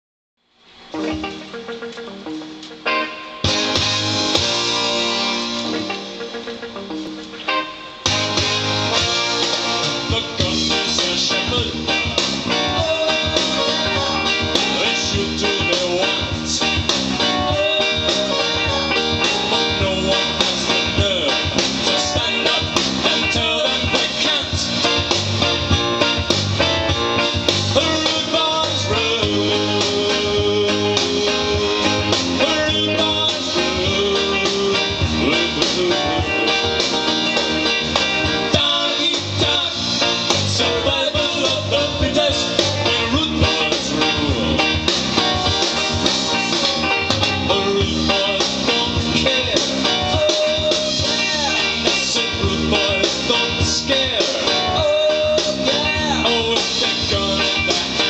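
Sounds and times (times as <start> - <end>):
bluesy guitar music: 0.8 - 58.0.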